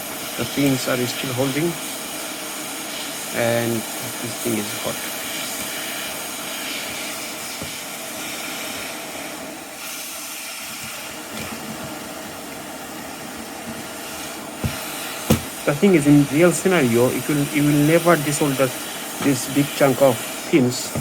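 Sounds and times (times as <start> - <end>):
hot air gun hissing: 0.0 - 21.0.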